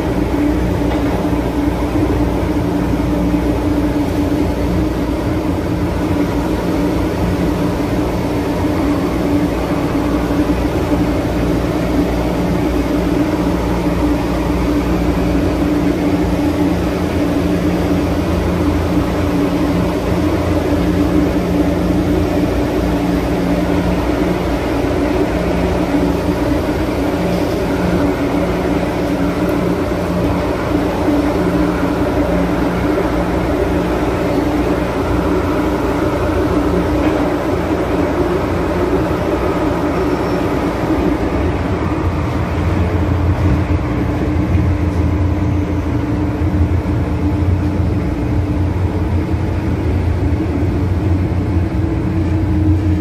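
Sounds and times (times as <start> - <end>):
electrical hum: 0.0 - 53.0
subway car rumble and hiss: 0.0 - 53.0.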